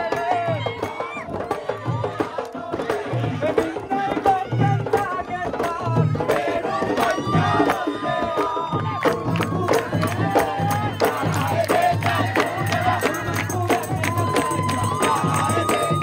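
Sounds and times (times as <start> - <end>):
hand-beaten drums: 0.0 - 16.0
voices singing together: 0.0 - 16.0.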